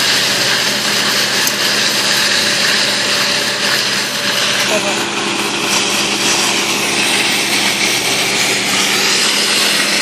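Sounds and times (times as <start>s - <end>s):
small engine humming: 0.0s - 10.0s.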